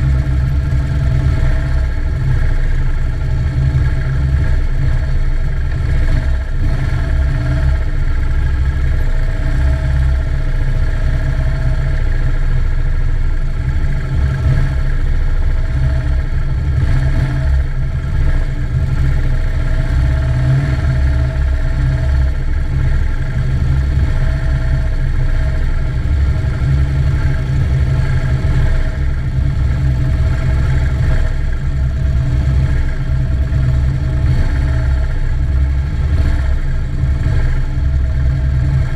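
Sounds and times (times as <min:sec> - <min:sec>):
motorcycle engine running: 0:00.0 - 0:38.9
other motorcycle engines: 0:00.0 - 0:38.9.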